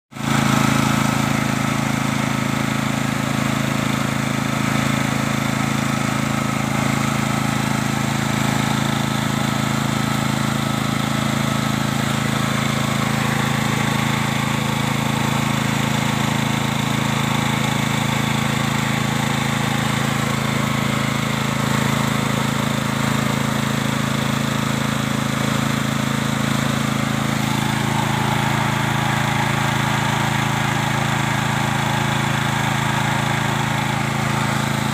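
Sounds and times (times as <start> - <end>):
generator engine running: 0.2 - 34.9.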